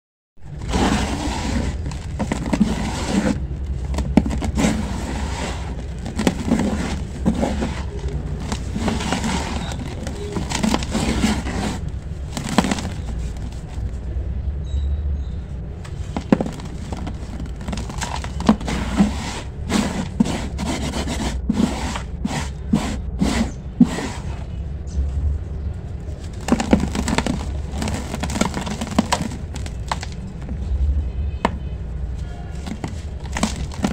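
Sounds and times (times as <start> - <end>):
gritty crunching and scraping: 0.4 - 14.0, 15.8 - 24.6, 25.9 - 30.8, 31.5 - 33.9.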